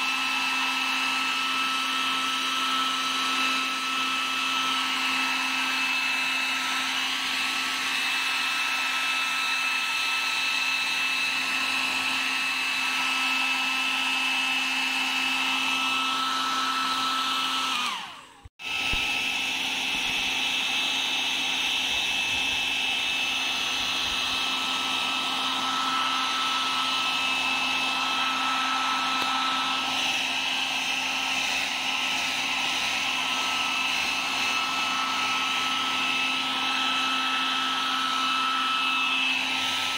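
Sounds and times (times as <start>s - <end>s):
hair dryer whining: 0.0s - 39.9s.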